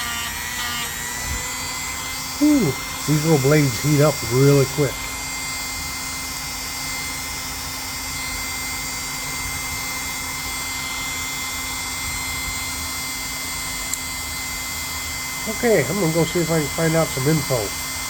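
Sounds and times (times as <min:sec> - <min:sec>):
power tool motor whirring: 0:00.0 - 0:18.0.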